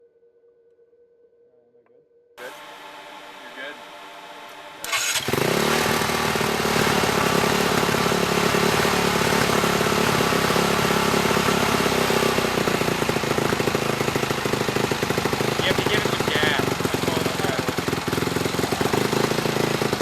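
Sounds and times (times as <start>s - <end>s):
race car engine starting and idling: 2.4s - 20.0s.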